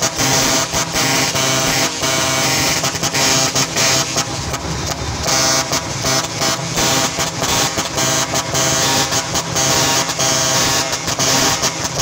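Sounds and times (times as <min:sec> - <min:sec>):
truck horns blaring: 0:00.0 - 0:12.0.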